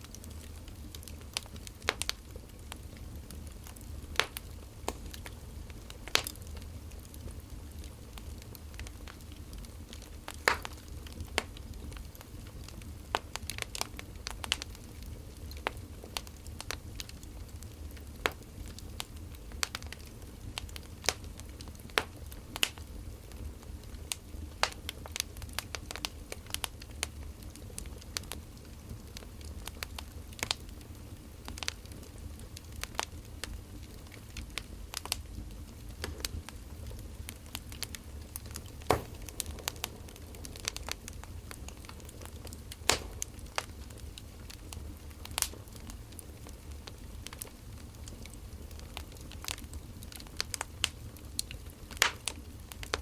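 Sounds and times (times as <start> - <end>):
low fire rumble: 0.0 - 53.0
wood fire snaps and pops: 0.0 - 53.0.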